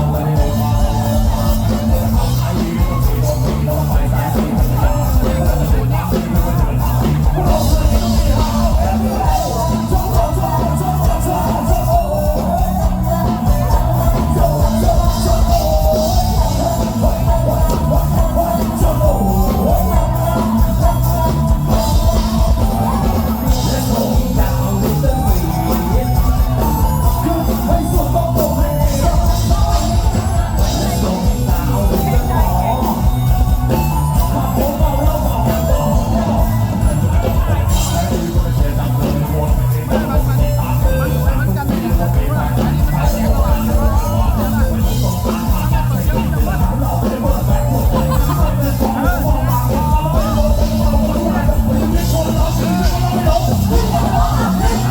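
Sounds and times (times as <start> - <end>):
live band music: 0.0 - 54.9.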